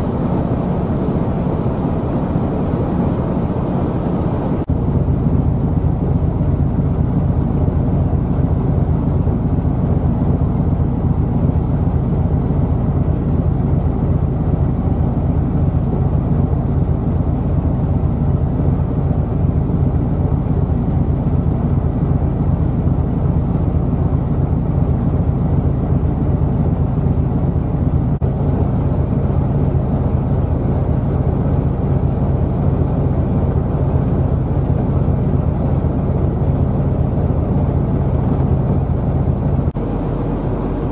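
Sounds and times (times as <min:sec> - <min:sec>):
ship diesel engine droning: 0:00.0 - 0:40.9.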